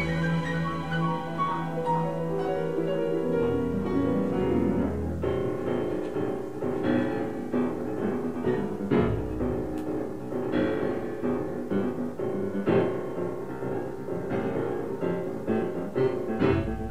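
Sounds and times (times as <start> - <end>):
piano music: 0.0 - 16.9.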